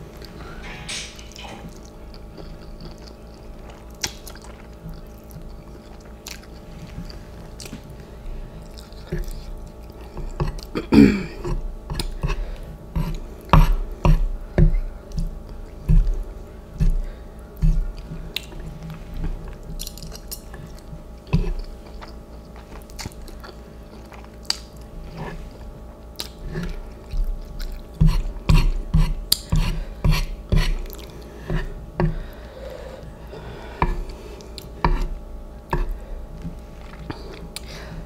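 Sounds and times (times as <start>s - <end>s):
person chewing noodles: 1.6s - 38.0s.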